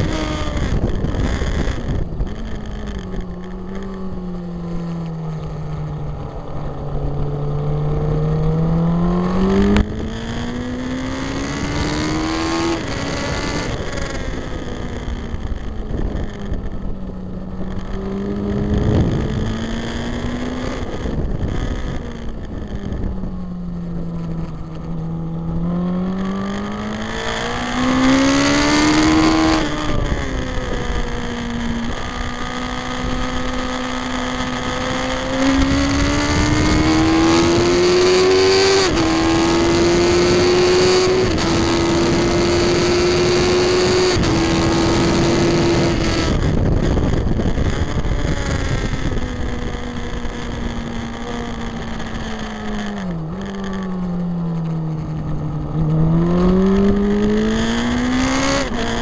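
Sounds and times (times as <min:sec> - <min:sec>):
heavy wind rush: 0:00.0 - 0:59.0
motorcycle engine at full throttle: 0:00.0 - 0:59.0.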